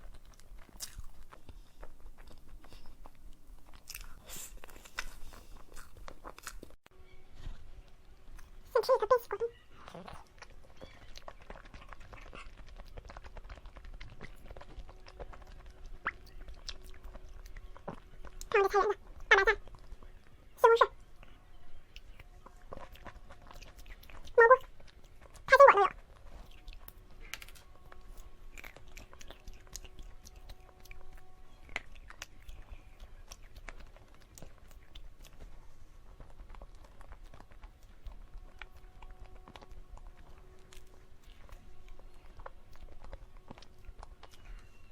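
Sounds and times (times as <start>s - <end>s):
chewing and wet mouth clicks: 0.0s - 6.8s, 8.4s - 44.9s
faint steady hum: 0.0s - 44.9s.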